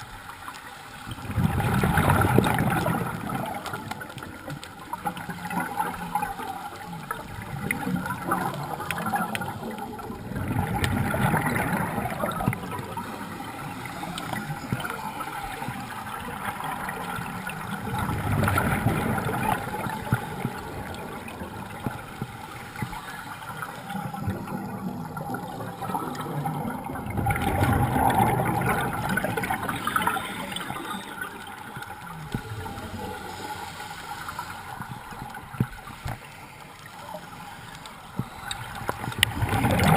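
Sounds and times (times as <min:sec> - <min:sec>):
water gurgling and rushing: 0:00.0 - 0:39.9.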